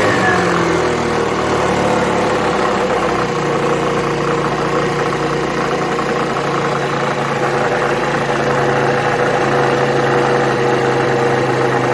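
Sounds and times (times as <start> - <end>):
scooter engine idling with rattle: 0.0 - 11.9.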